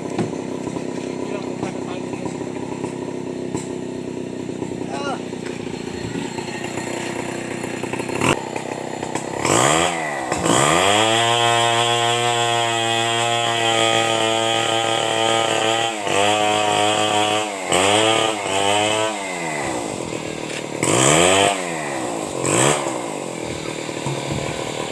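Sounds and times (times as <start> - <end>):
chainsaw idling and revving: 0.0 - 24.9.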